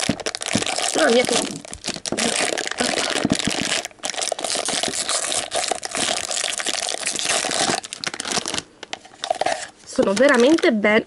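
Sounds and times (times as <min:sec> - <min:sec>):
foil packets crinkling: 0:00.0 - 0:10.8.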